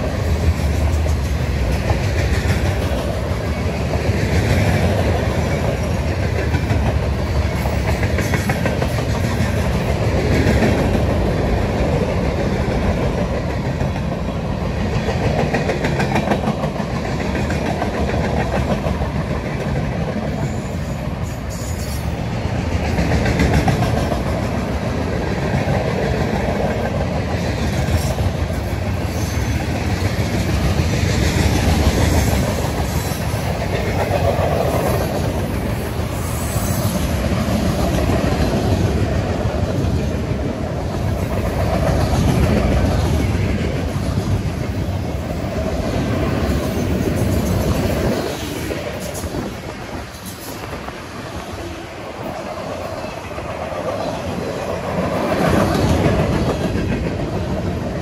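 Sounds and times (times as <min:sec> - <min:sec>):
freight train rolling past: 0:00.0 - 0:58.0
steel wheels rattling on rails: 0:00.0 - 0:58.0.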